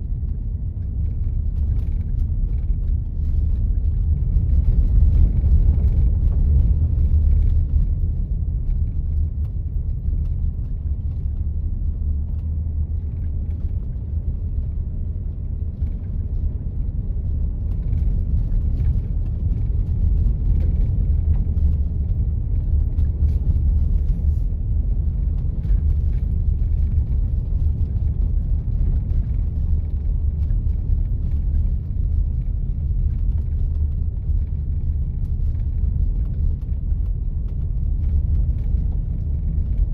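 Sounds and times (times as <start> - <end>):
vehicle driving on snow: 0.0 - 39.9.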